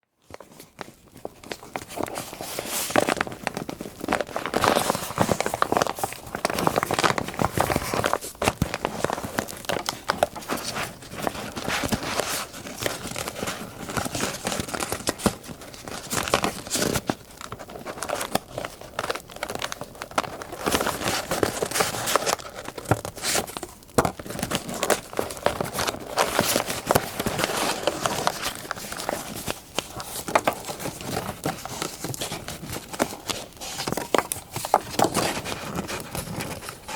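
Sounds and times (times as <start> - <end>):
paper crinkling and tearing: 0.3 - 36.9.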